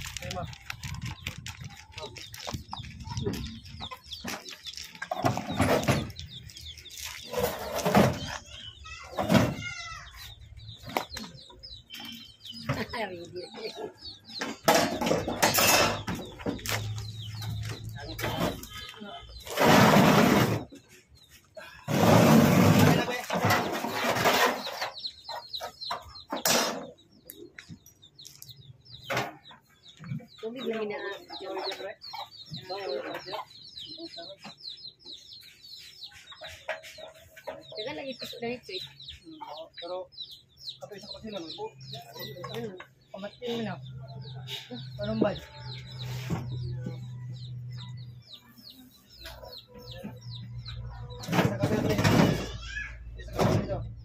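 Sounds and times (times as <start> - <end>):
chickens clucking: 0.0 - 54.0
small birds chirping: 0.0 - 54.0.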